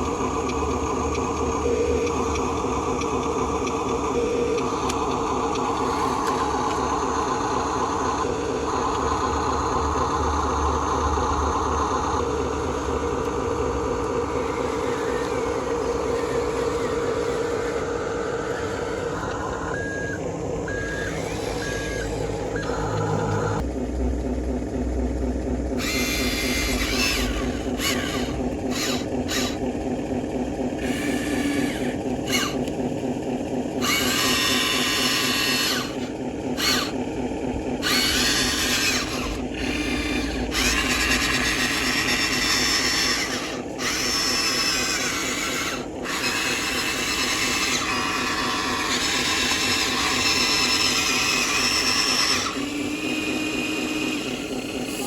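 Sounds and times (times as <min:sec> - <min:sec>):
small electric motors whining: 0:00.0 - 0:23.7, 0:25.5 - 0:55.0
low motor hum: 0:00.0 - 0:55.0.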